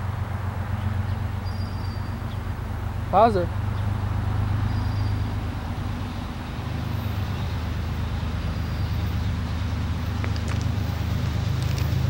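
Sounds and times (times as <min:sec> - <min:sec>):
distant diesel locomotive drone: 0:00.0 - 0:12.0.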